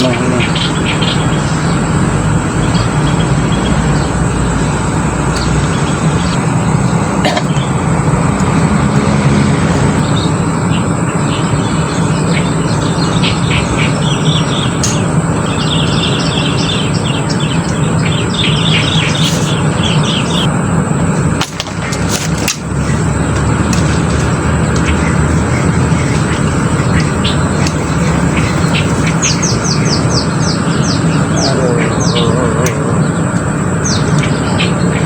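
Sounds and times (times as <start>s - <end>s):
birds chirping: 0.0s - 35.0s
loud steady low rumble: 0.0s - 35.0s.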